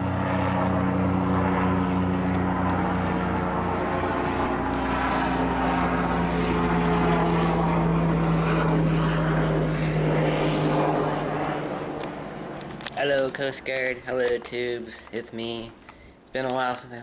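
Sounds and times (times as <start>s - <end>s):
engine drone: 0.0s - 16.3s.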